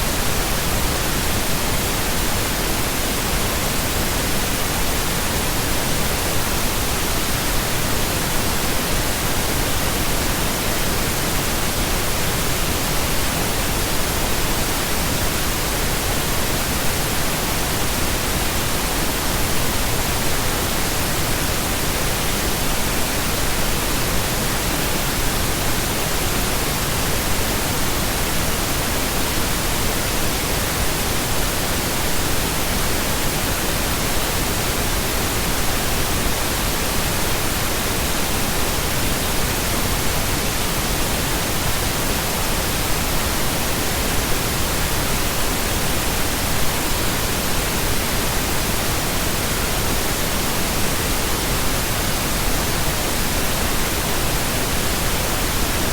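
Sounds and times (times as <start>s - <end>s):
pink noise hiss: 0.0s - 55.9s.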